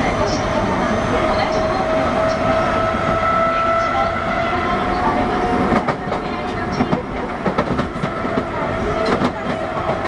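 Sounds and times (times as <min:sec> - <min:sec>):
subway train whine: 0:00.0 - 0:10.0.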